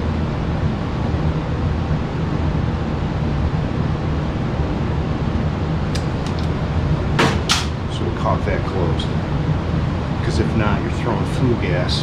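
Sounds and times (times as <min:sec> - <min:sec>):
steady low rumble with hiss: 0:00.0 - 0:12.0.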